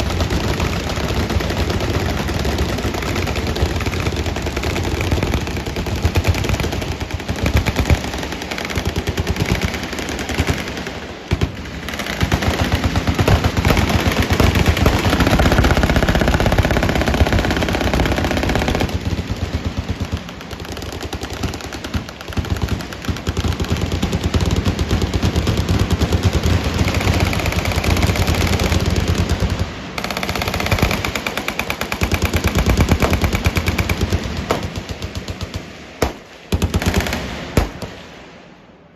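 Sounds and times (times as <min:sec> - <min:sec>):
machine gun fire: 0:00.0 - 0:38.2.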